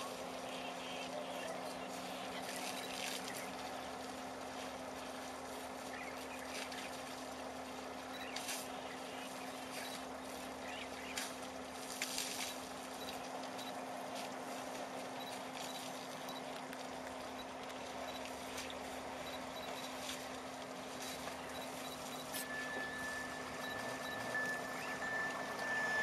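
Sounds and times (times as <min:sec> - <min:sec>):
steady low hum: 0:00.0 - 0:26.0
water splashing: 0:01.9 - 0:26.0.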